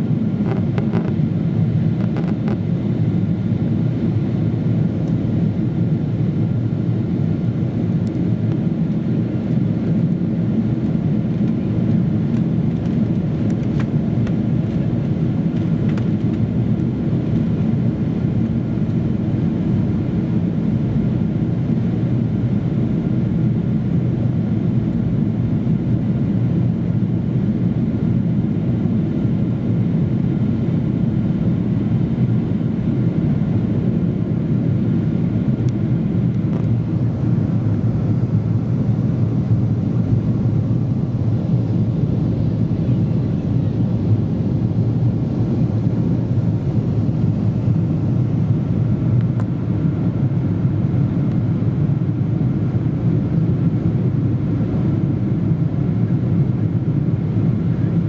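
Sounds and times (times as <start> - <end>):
airplane cabin engine rumble: 0.0 - 58.0
faint whine: 0.0 - 58.0.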